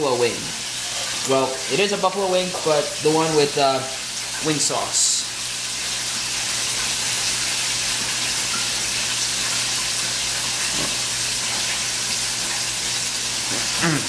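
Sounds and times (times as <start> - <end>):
food sizzling in deep fryer: 0.0 - 14.0.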